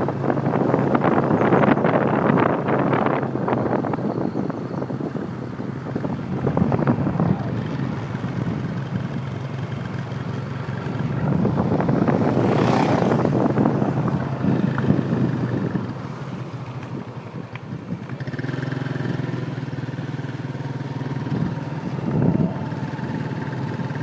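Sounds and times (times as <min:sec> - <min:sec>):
wind buffeting microphone: 0:00.0 - 0:20.2, 0:21.0 - 0:24.0
motorbike engine hum: 0:00.0 - 0:24.0
motorcycle passing: 0:00.0 - 0:24.0.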